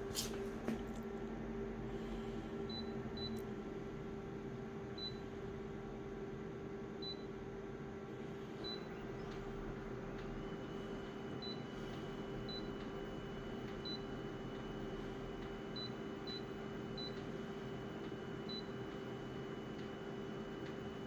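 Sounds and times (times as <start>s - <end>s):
copier humming: 0.0s - 21.0s.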